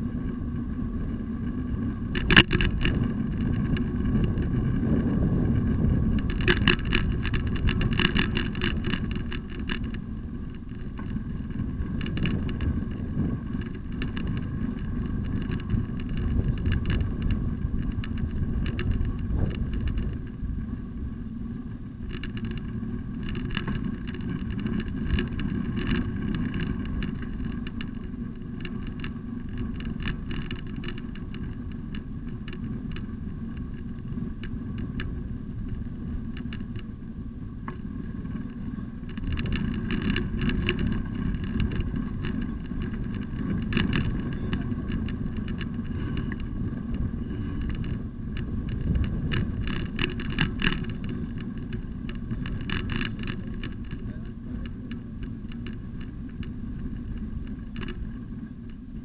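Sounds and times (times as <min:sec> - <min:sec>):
bicycle rattling clicks: 0:00.0 - 0:59.0
wind and road rumble: 0:00.0 - 0:59.0.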